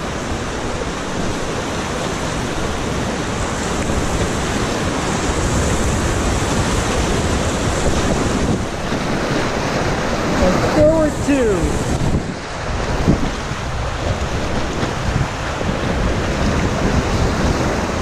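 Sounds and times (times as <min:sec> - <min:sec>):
whitewater rushing: 0:00.0 - 0:18.0.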